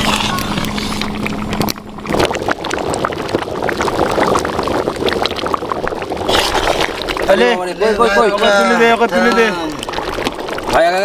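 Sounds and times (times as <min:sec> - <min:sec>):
thick curry bubbling: 0:00.0 - 0:11.0.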